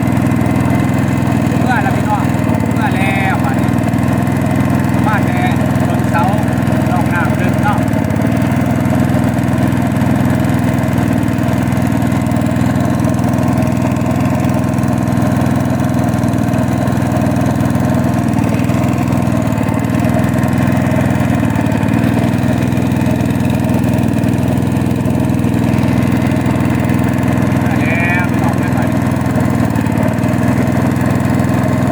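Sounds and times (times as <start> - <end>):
motorboat engine running: 0.0 - 31.9.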